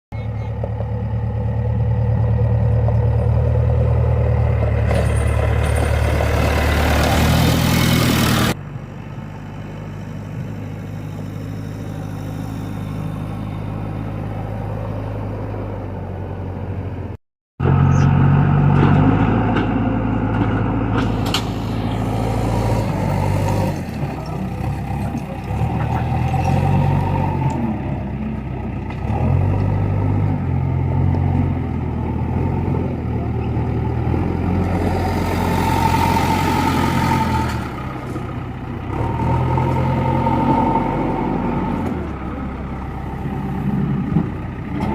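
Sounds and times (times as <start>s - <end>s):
diesel engine running: 0.1s - 44.9s.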